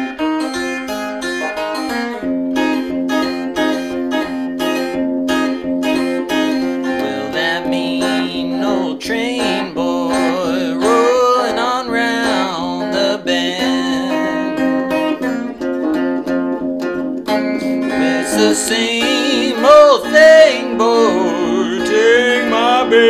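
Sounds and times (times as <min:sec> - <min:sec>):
acoustic blues guitar rhythm: 0:00.0 - 0:23.0
bending guitar melody: 0:00.0 - 0:23.0.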